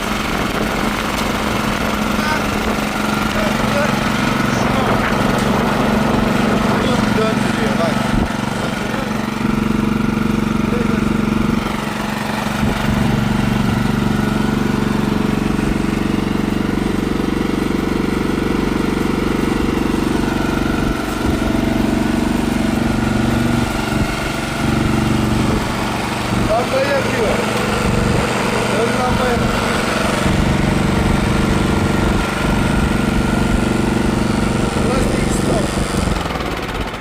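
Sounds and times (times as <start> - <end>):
snowblower engine running: 0.0 - 37.0.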